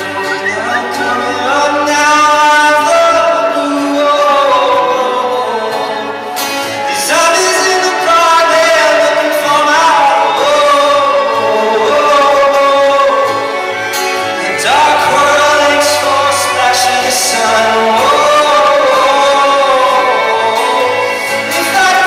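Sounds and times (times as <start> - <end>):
instrumental accompaniment: 0.0 - 22.0
man singing: 0.0 - 22.0.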